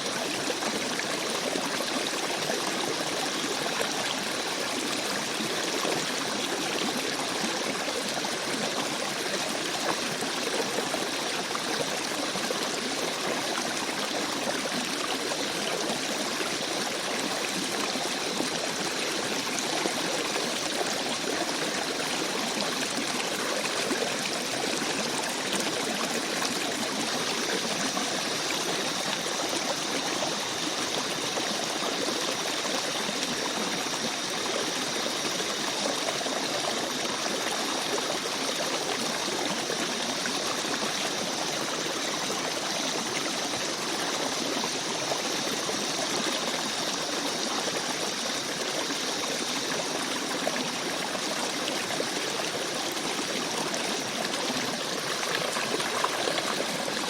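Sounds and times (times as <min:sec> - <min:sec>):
stream babbling over rocks: 0:00.0 - 0:57.0.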